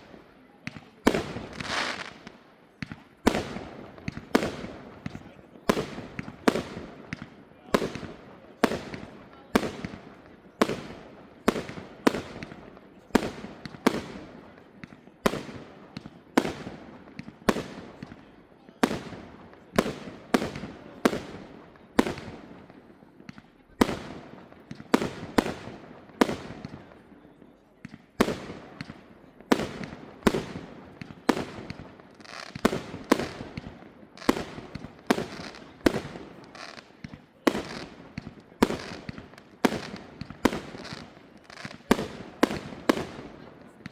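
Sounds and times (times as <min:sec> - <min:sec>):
fireworks bursting with echo: 0:00.0 - 0:43.9.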